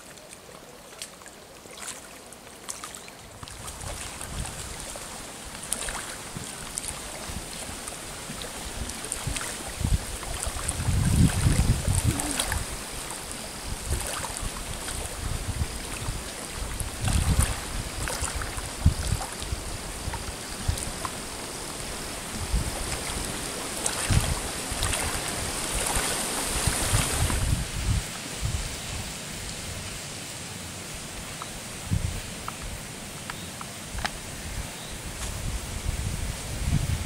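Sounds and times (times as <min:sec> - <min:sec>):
small waves lapping at shore: 0:00.0 - 0:36.6
wind gusting on microphone: 0:03.5 - 0:30.0, 0:30.9 - 0:33.2, 0:33.8 - 0:37.0.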